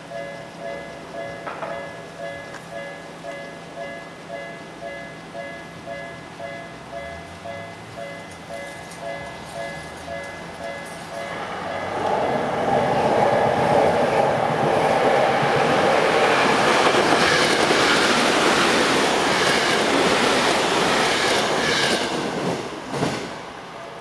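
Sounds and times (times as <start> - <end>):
crossing warning bell: 0.0 - 22.2
electric train passing: 0.0 - 24.0.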